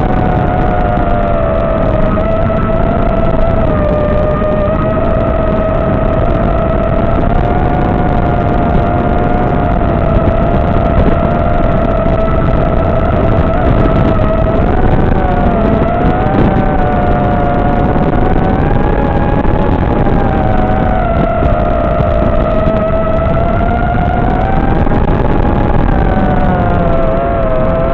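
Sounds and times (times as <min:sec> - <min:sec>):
drone motors whining: 0:00.0 - 0:27.9.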